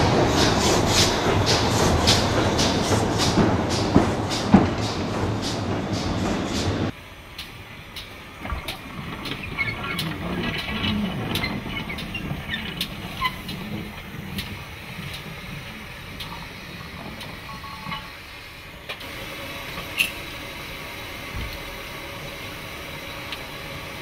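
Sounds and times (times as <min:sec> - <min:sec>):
steam locomotive clanking: 0:00.0 - 0:24.0.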